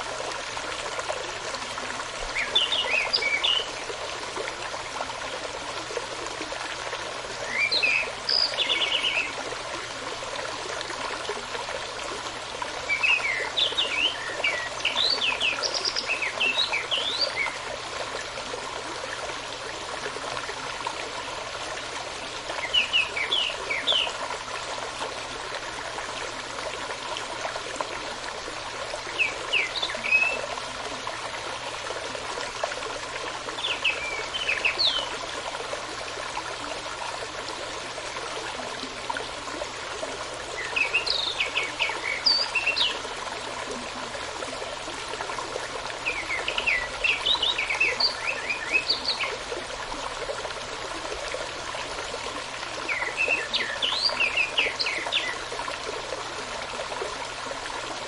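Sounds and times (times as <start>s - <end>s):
small stream running: 0.0s - 58.0s.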